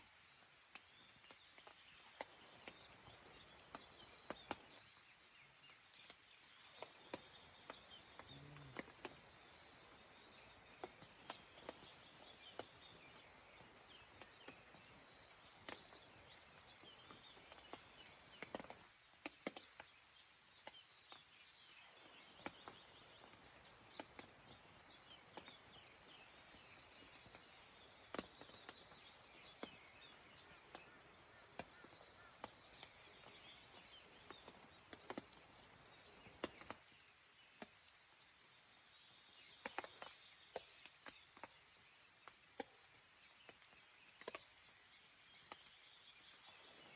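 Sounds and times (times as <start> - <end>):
faint birds chirping: 0.0 - 46.9.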